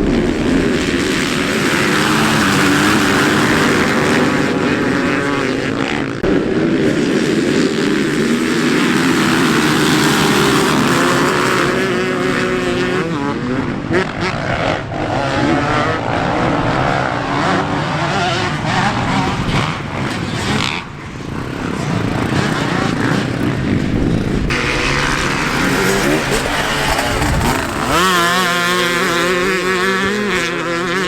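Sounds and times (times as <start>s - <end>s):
motocross engines revving: 0.0s - 31.0s.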